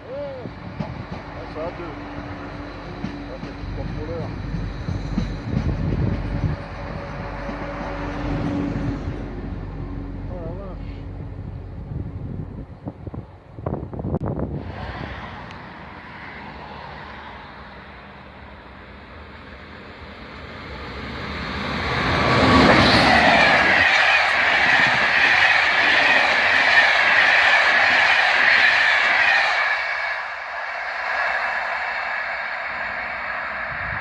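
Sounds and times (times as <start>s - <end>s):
train passing: 0.0s - 34.0s.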